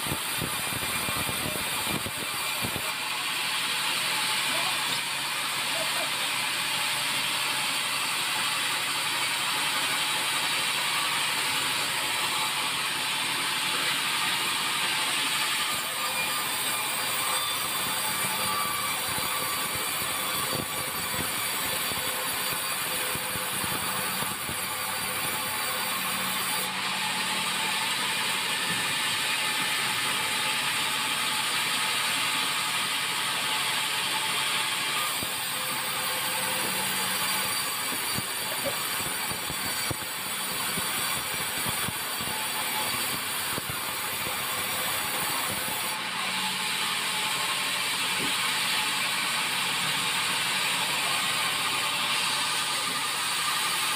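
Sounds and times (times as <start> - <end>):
band saw cutting timber: 0.0 - 53.9.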